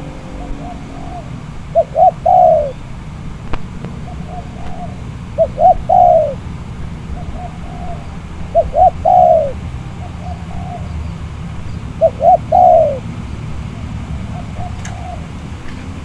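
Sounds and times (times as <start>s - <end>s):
dove cooing: 0.0s - 16.0s
wind rumble on microphone: 0.0s - 16.0s.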